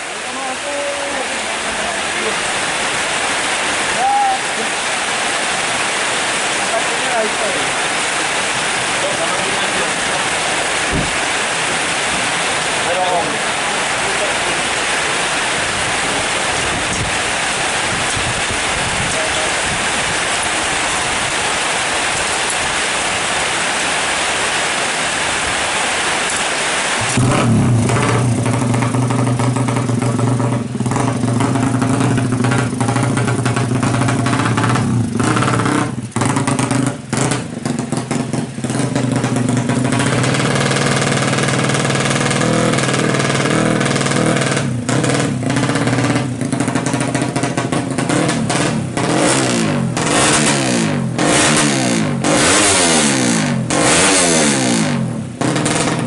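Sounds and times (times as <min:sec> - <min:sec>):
heavy rain hissing: 0:00.0 - 0:55.5
motorcycle engine revving: 0:04.8 - 0:56.0.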